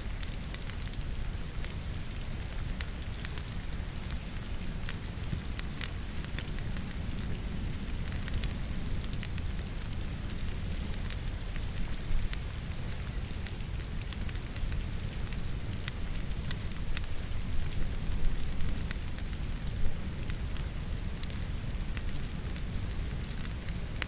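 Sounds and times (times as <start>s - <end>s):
falling rain hiss: 0.0s - 24.0s
firewood crackling and popping: 0.0s - 24.0s.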